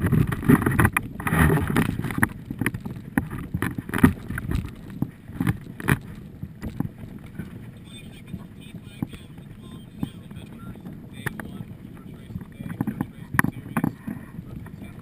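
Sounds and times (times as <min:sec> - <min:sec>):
water splashing: 0:00.0 - 0:15.0
wind buffeting: 0:00.0 - 0:15.0.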